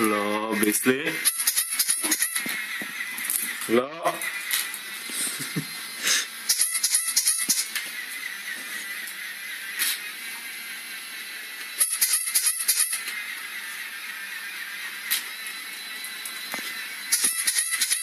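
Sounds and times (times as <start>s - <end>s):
toy rabbit whirring: 0.0s - 18.0s.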